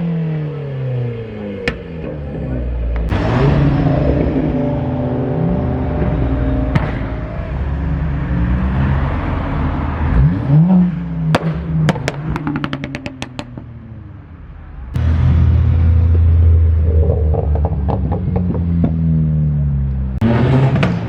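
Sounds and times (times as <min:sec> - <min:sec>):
car engine revving: 0:00.0 - 0:14.2, 0:14.8 - 0:21.0.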